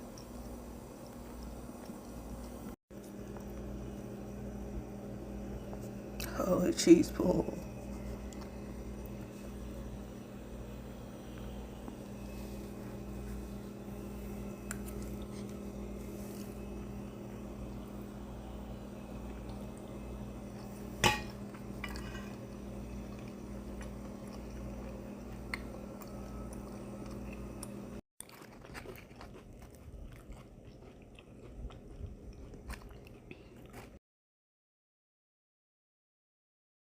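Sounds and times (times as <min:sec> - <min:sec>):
person chewing and crunching food: 0:00.0 - 0:03.8, 0:07.6 - 0:10.6, 0:11.2 - 0:34.0
steady low hum: 0:00.0 - 0:28.0, 0:28.6 - 0:34.0.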